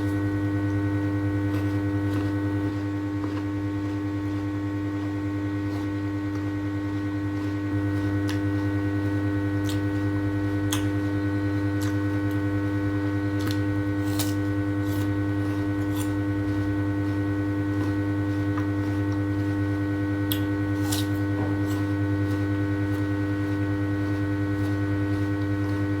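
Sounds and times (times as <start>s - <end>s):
electrical hum: 0.0s - 26.0s
person eating fruit crunching: 0.0s - 26.0s.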